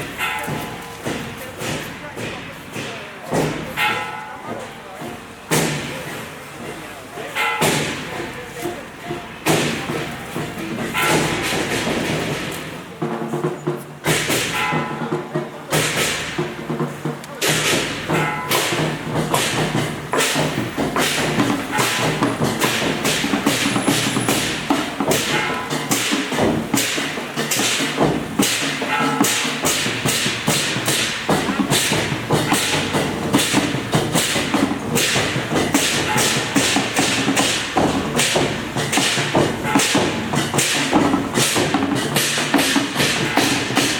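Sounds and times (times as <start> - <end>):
sharp bangs: 0.0 - 13.4, 14.0 - 43.9
voices: 0.0 - 43.9
music: 8.6 - 43.9.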